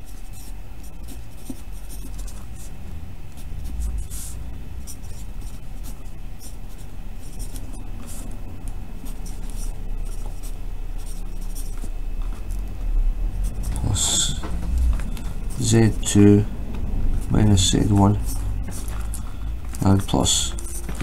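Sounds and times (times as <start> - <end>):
pencil scratching on paper: 0.0 - 16.5, 17.1 - 21.0
steady low hum: 0.0 - 21.0.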